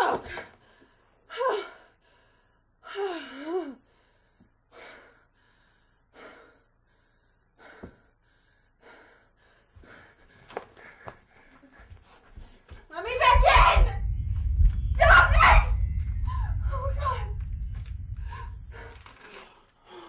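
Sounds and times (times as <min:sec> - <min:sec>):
woman breathing heavily: 0:00.2 - 0:12.9, 0:15.6 - 0:20.0.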